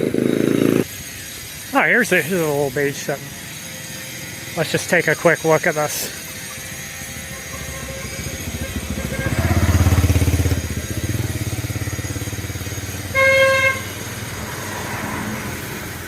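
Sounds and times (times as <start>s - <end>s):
small motorcycle engine putter: 0.0s - 13.1s.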